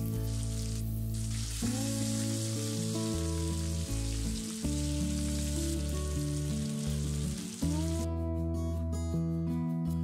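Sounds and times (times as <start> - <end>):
fish frying in oil: 0.0 - 8.0
background music of held notes: 0.1 - 10.0.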